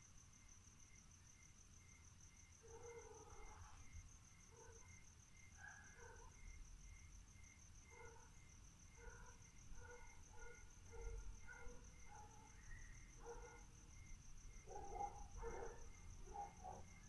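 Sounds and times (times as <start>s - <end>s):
crickets trilling: 0.0s - 17.0s
insect chirping: 0.0s - 17.0s.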